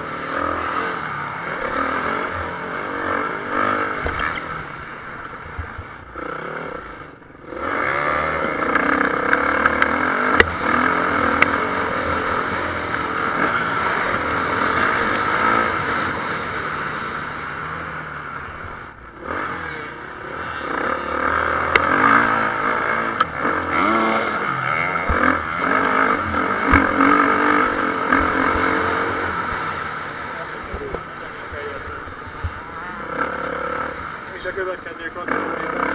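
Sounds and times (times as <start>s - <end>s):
motocross motorcycles revving: 0.0s - 35.9s.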